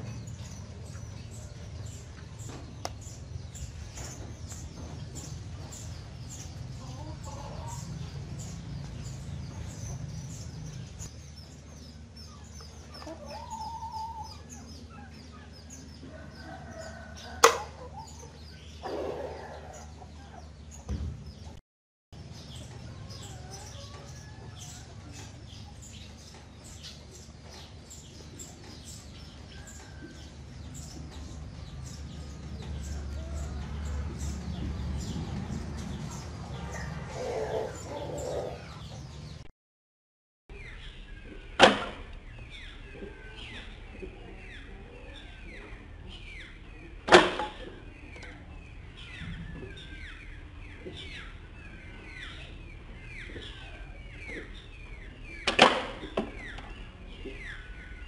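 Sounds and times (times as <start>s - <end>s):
small birds chirping: 0.0s - 21.6s, 22.2s - 39.5s, 40.5s - 58.0s.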